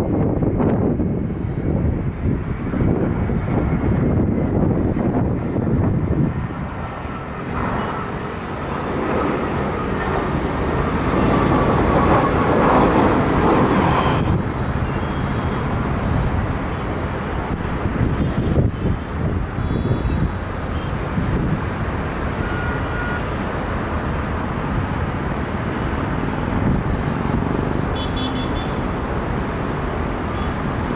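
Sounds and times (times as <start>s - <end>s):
steady vehicle noise: 0.0s - 30.9s.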